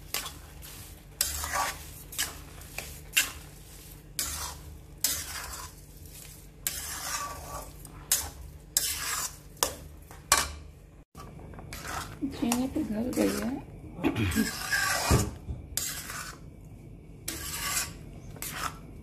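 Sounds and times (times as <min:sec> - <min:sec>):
spatula scraping iron pan: 0:00.0 - 0:10.6, 0:11.7 - 0:13.6, 0:14.3 - 0:16.4, 0:17.2 - 0:18.9
steady sizzle: 0:00.0 - 0:19.0.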